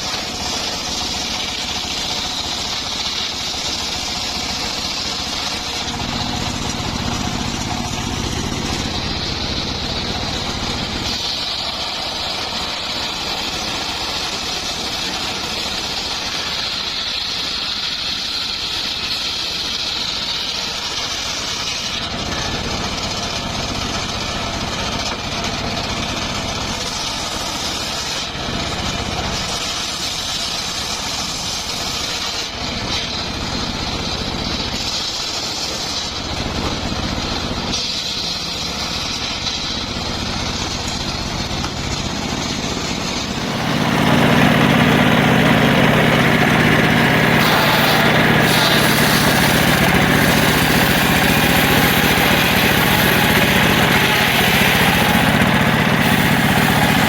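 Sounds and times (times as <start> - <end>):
circular saw running: 0.0 - 57.0.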